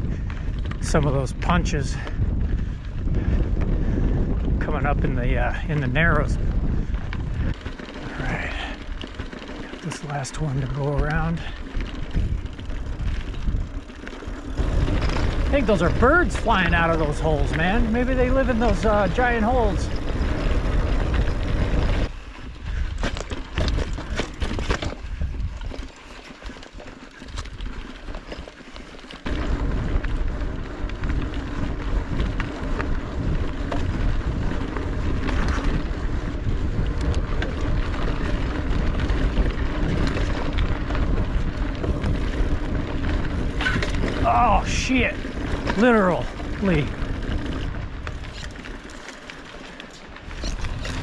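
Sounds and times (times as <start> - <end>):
bike rattles: 0.0 - 51.0
bike tyres on dirt trail: 0.0 - 51.0
wind rumbling on microphone: 0.0 - 51.0.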